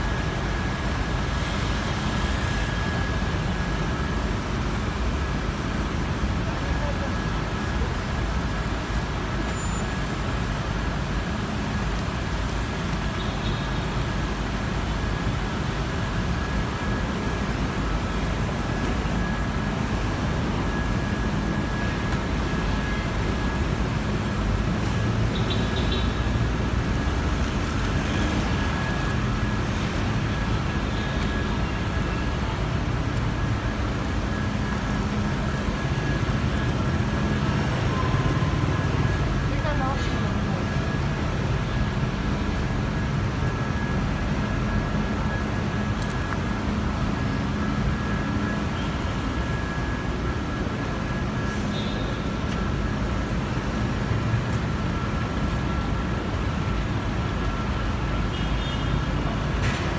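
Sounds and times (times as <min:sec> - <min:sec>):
city street traffic: 0:00.0 - 0:59.9.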